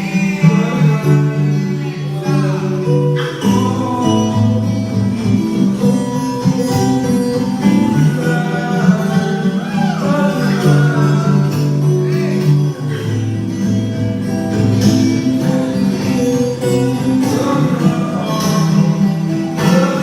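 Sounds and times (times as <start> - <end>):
guitar strums over a beat: 0.0 - 20.0
person singing: 0.0 - 20.0.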